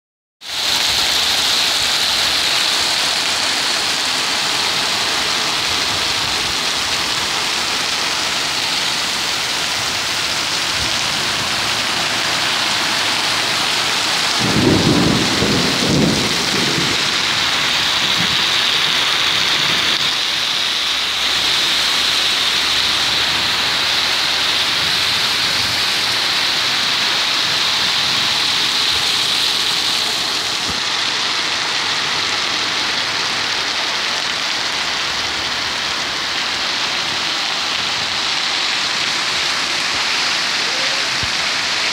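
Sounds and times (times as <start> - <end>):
heavy rain: 0.4 - 41.9.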